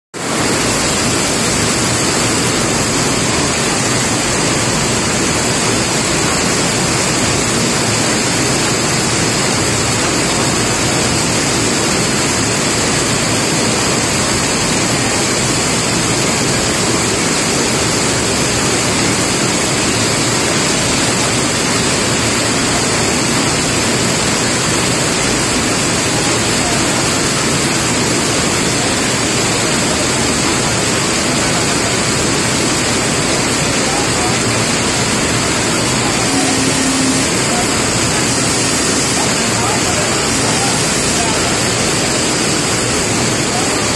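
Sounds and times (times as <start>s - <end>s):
heavy rain falling: 0.2s - 43.9s.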